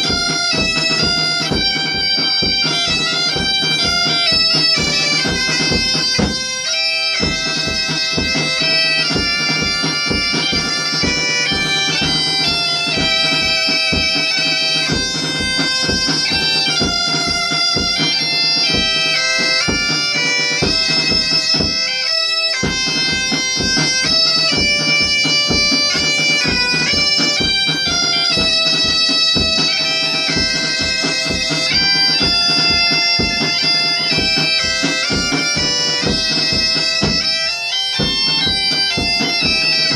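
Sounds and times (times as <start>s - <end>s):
bagpipe playing folk tune: 0.0s - 39.9s
drum beat: 0.0s - 39.9s.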